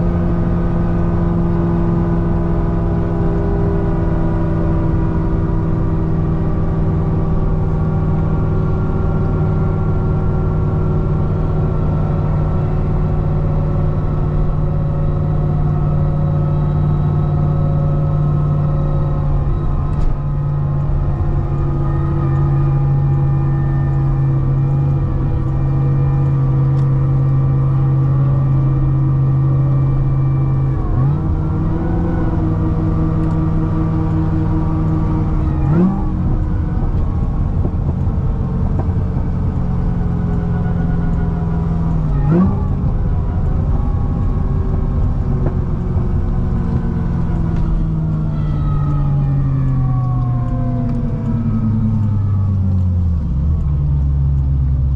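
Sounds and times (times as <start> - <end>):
car engine droning: 0.0 - 54.9.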